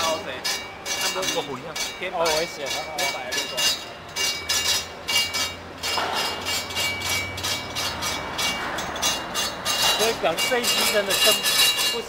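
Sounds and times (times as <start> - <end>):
metallic clattering of spinning rod: 0.0 - 12.0.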